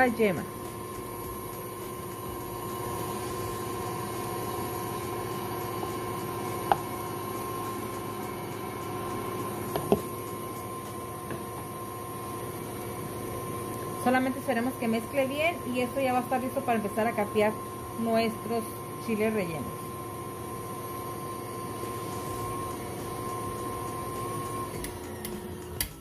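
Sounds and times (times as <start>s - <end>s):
stand mixer running: 0.0s - 26.0s.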